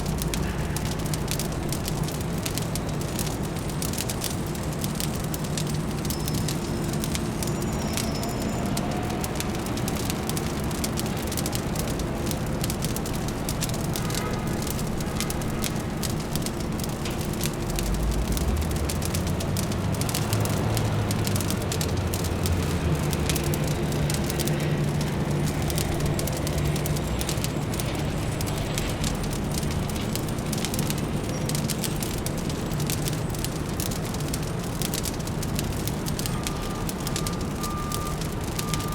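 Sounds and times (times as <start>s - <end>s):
low city hum: 0.0s - 38.9s
wood fire crackling and popping: 0.0s - 38.9s.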